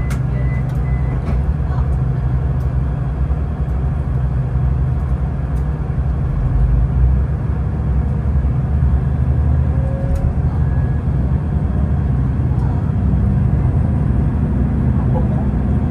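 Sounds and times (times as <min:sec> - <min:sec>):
large vehicle engine droning: 0:00.0 - 0:15.9.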